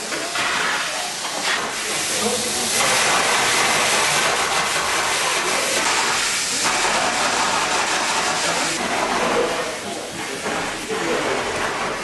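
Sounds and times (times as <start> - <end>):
water spraying hiss: 0.0 - 11.4.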